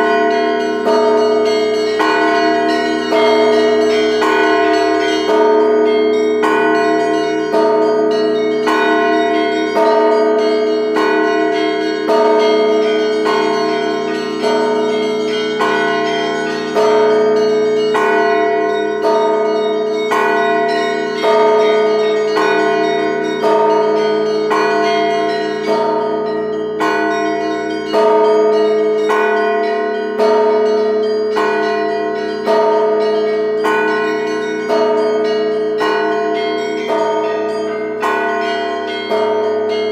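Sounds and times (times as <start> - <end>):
church bells struck together: 0.0 - 39.9
large bells ringing: 0.0 - 39.9.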